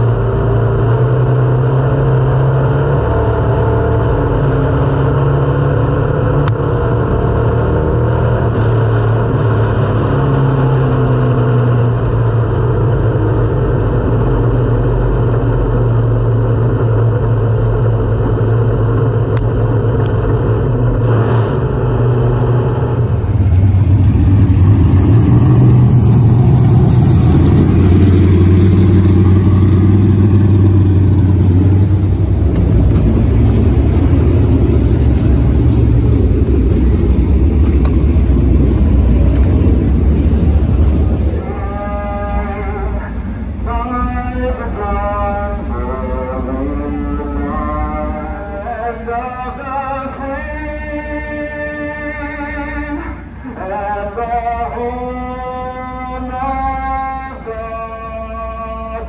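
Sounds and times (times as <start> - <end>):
race car engine running: 0.0 - 54.1
low race car engine drone: 0.0 - 59.0.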